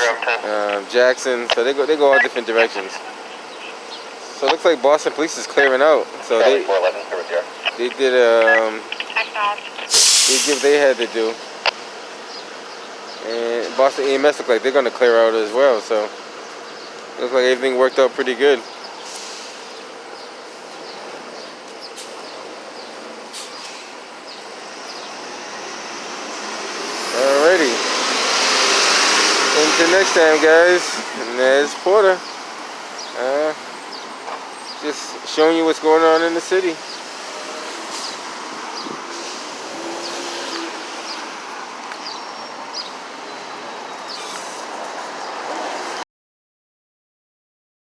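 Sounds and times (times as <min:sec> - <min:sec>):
passing vehicles: 0:00.0 - 0:46.0
traffic hiss: 0:00.0 - 0:46.0.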